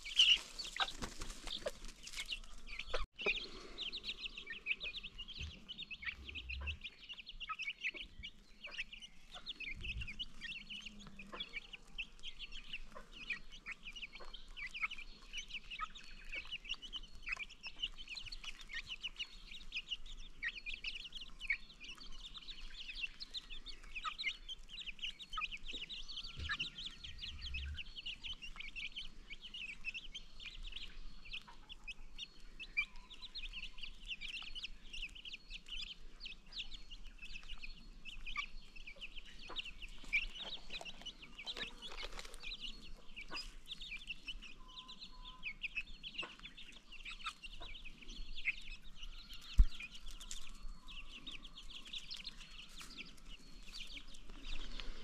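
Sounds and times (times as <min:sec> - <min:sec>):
baby chicks peeping: 0:00.0 - 0:55.0.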